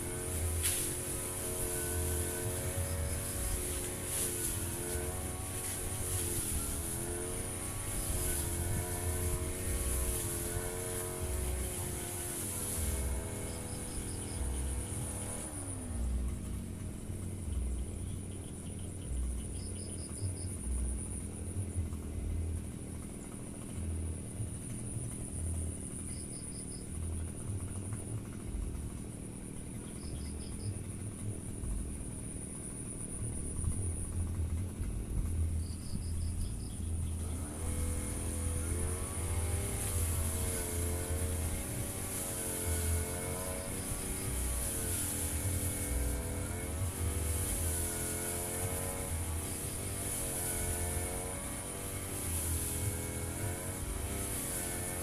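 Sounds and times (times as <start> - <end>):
high insect buzz: 0.0 - 21.9, 22.6 - 55.0
brush cutter engine: 0.0 - 55.0
insect chirping: 0.1 - 16.6, 17.3 - 22.3, 24.8 - 28.0, 29.5 - 34.4, 35.0 - 55.0.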